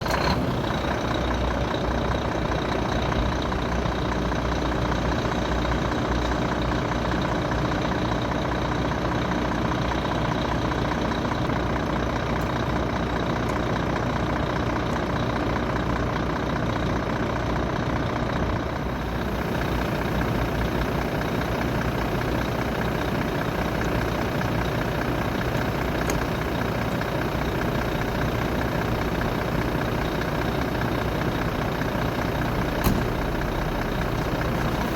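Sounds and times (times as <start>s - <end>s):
road and cab noise: 0.0s - 34.9s
truck diesel engine running: 0.0s - 34.9s.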